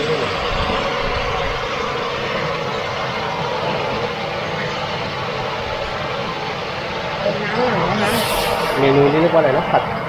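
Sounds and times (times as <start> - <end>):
gas burner roar: 0.0 - 10.0.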